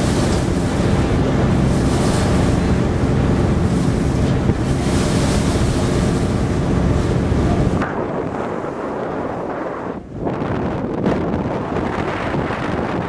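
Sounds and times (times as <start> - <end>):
ship engine drone: 0.0 - 13.0
waves splashing against hull: 0.0 - 13.0
wind on microphone: 0.0 - 13.0.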